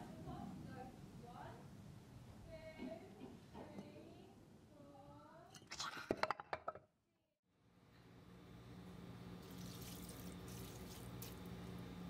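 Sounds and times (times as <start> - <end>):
steady low hum with hiss: 0.0 - 5.5, 7.6 - 12.0.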